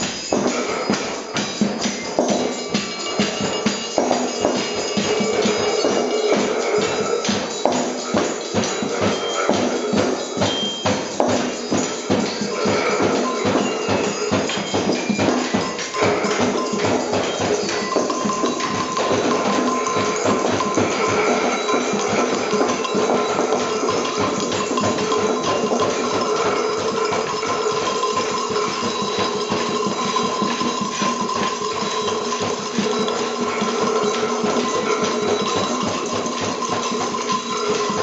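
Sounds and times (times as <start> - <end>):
hand percussion clatter: 0.0 - 38.0
steady held tones: 0.0 - 38.0.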